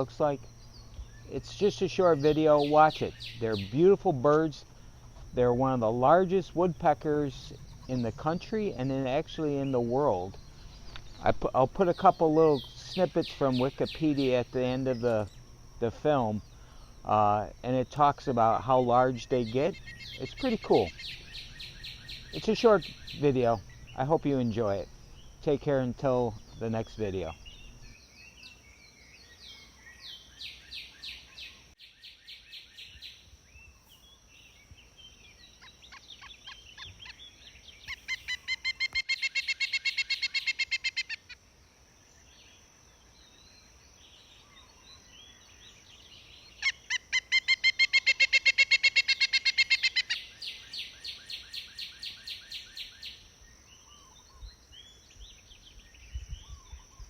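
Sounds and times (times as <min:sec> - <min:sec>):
woodpecker calling: 0:00.0 - 0:33.2, 0:34.0 - 0:41.4, 0:44.2 - 0:57.0.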